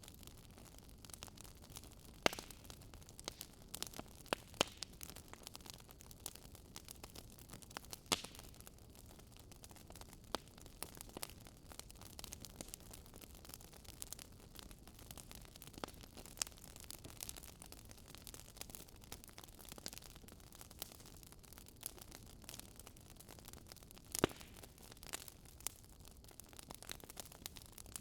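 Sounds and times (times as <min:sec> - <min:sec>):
wood fire popping and snapping: 0:00.0 - 0:28.0.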